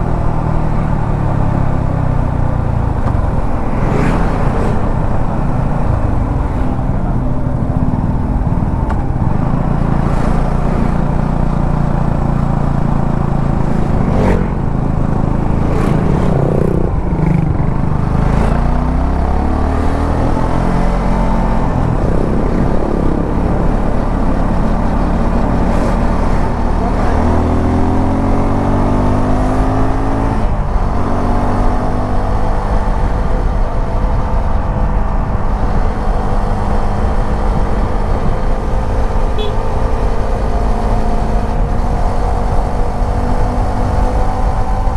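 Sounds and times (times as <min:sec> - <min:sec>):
road and wind rumble: 0:00.0 - 0:44.9
motorcycle engine revving: 0:01.4 - 0:44.9.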